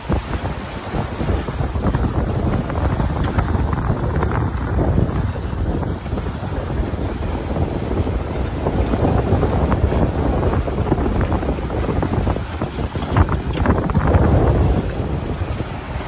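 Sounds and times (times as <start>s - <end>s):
rushing water and breaking waves: 0.0s - 16.0s
wind buffeting microphone: 0.0s - 16.0s.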